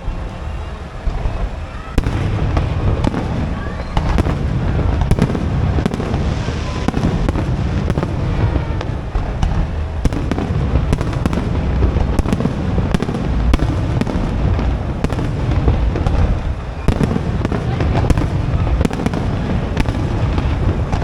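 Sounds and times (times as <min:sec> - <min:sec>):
fireworks cracks and bangs: 0:00.0 - 0:21.0
fireworks falling whistles: 0:00.0 - 0:21.0.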